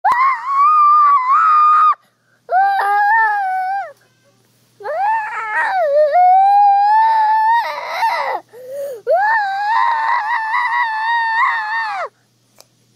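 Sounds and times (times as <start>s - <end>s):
young child wailing: 0.1s - 4.0s, 4.8s - 8.5s, 9.1s - 12.1s.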